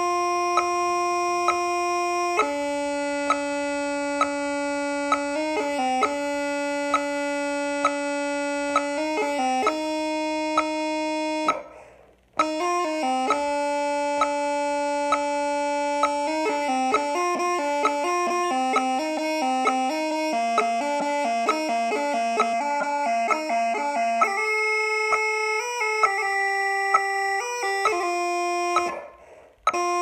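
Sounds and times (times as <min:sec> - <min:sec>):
bagpipes playing: 0:00.0 - 0:30.0.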